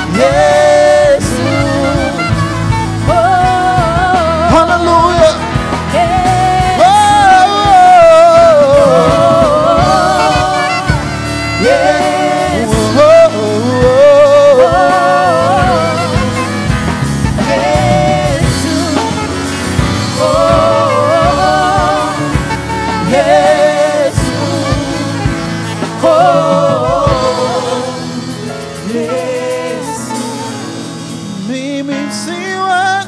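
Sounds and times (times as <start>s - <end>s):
bass accompaniment: 0.0s - 33.0s.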